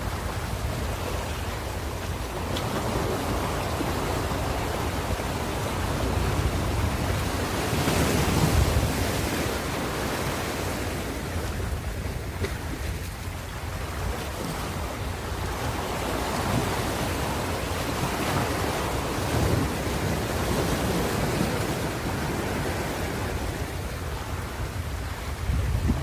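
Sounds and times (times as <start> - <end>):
waves breaking: 0.0 - 26.0
wind noise on microphone: 0.0 - 26.0.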